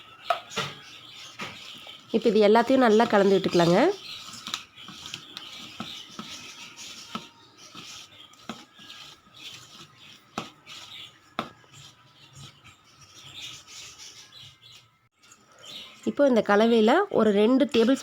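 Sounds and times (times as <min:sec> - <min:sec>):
spoon scraping dry flour: 0:00.0 - 0:14.8, 0:17.6 - 0:18.0.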